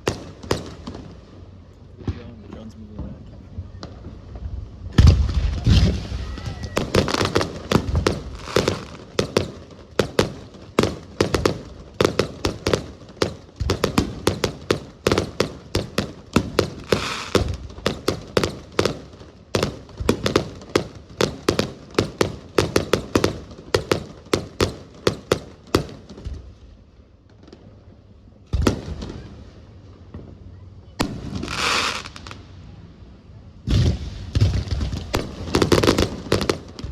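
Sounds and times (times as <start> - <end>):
fireworks bangs: 0.0 - 27.8, 28.4 - 32.8, 33.6 - 36.9.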